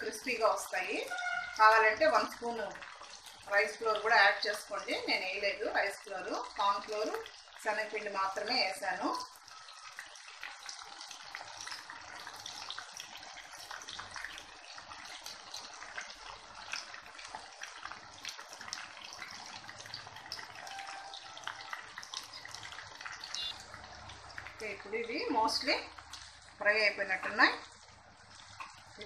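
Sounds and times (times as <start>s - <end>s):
food deep-frying in hot oil: 0.0s - 29.0s.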